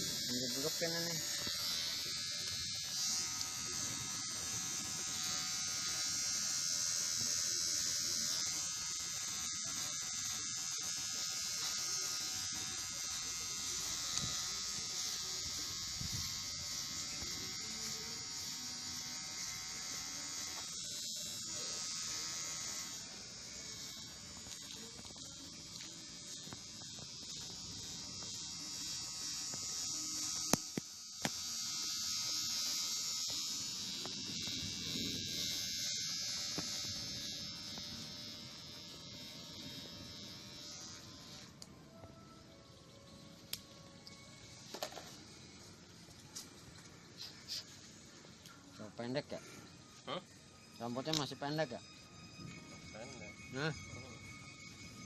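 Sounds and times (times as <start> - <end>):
electric hair clipper buzzing: 0.0 - 55.0.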